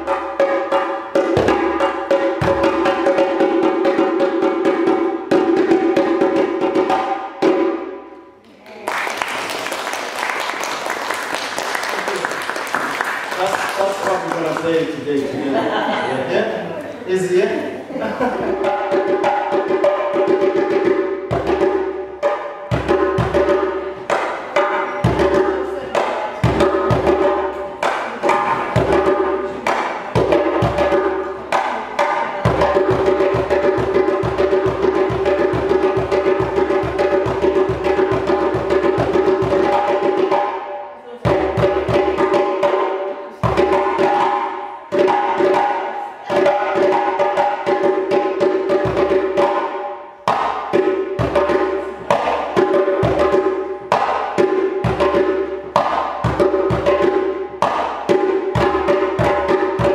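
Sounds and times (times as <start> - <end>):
djembe played by hand: 0.0 - 8.1, 18.2 - 59.9.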